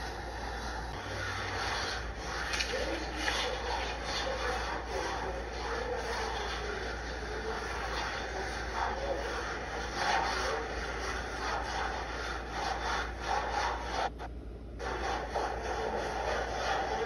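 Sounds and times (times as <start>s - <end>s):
drawing material scraping paper: 0.0s - 14.1s, 14.8s - 17.0s.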